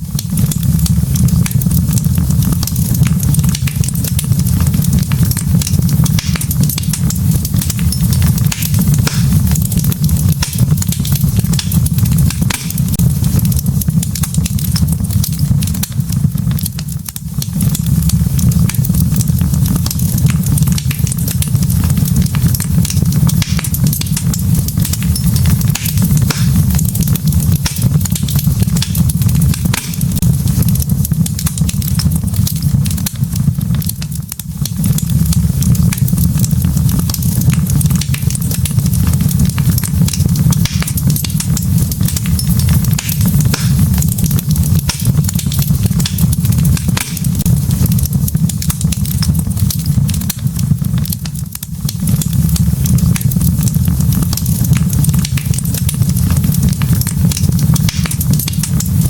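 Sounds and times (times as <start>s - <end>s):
fire flames rumbling: 0.0s - 59.0s
wood crackling and popping: 0.0s - 59.0s.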